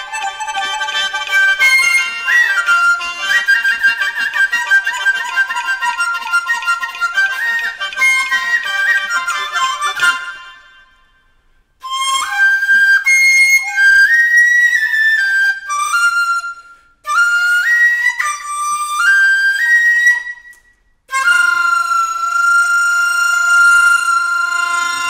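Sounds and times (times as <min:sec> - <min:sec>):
bamboo flute melody: 0:00.0 - 0:25.0.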